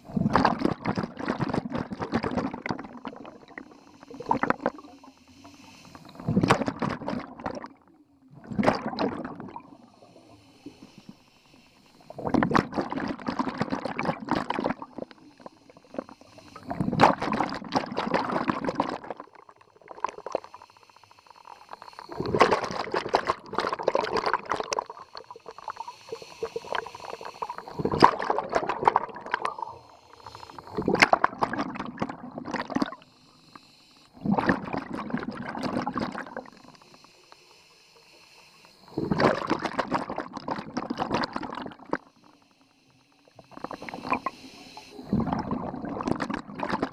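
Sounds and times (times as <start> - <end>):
exhaled air bubbling underwater: 0.0 - 46.9.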